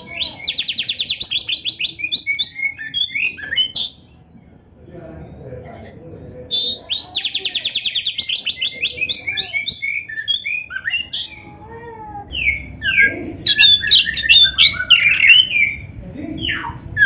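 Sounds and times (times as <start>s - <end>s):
bird singing varied whistled phrases: 0.0s - 4.4s, 6.5s - 11.4s, 12.3s - 17.0s.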